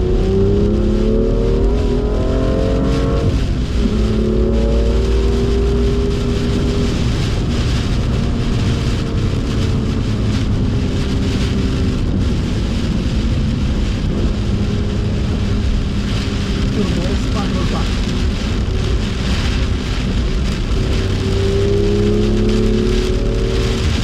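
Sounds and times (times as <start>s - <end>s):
car engine running: 0.0s - 24.0s
rain hissing: 0.0s - 24.0s
tyre spray on wet road: 1.4s - 24.0s.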